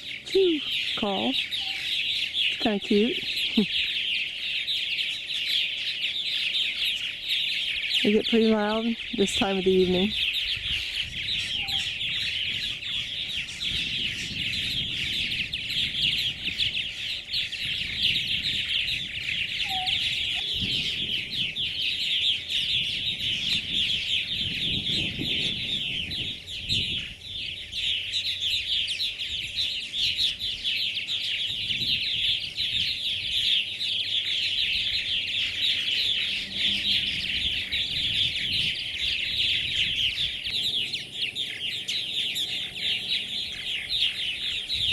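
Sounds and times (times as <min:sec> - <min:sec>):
birds chirping chatter: 0:00.0 - 0:44.9.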